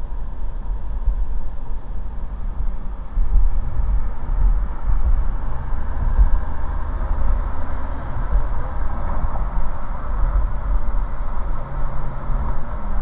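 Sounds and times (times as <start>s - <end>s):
road rumble inside car: 0.0s - 13.0s.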